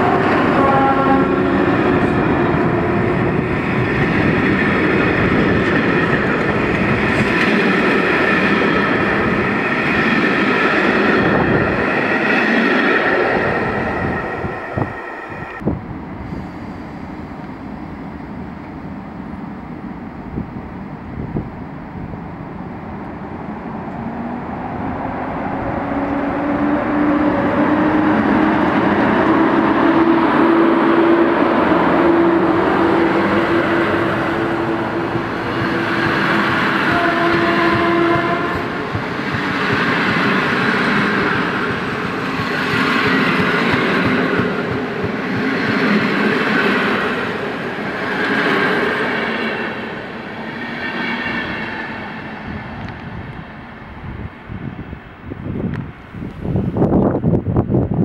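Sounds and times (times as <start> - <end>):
train wheels rushing and rattling: 0.0 - 16.8, 23.9 - 53.6
electric locomotive tone: 0.0 - 20.3, 23.7 - 53.3.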